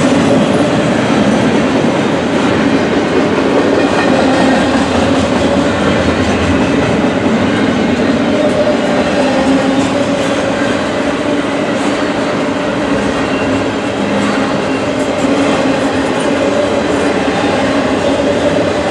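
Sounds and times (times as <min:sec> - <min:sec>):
freight train rumbling past: 0:00.0 - 0:18.9.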